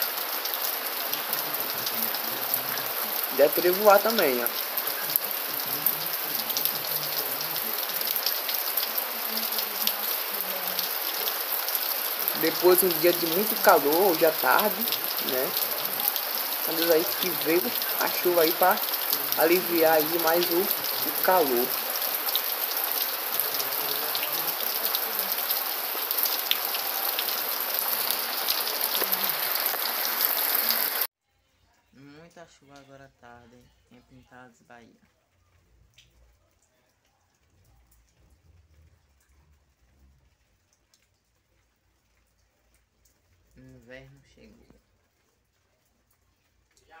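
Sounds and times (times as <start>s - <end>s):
heavy rain on a tile roof: 0.0s - 31.1s, 34.9s - 47.0s.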